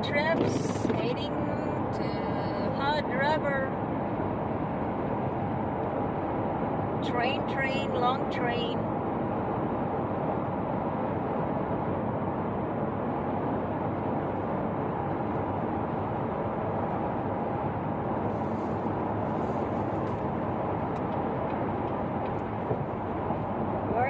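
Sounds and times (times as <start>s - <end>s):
car road and tyre noise: 0.0s - 24.0s.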